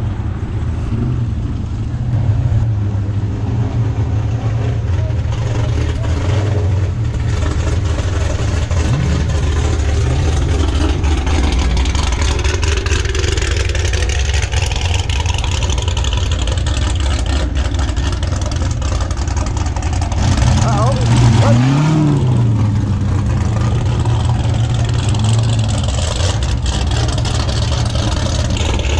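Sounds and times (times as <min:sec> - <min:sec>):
car engine drone: 0:00.0 - 0:28.9
road and wind noise: 0:00.0 - 0:28.9.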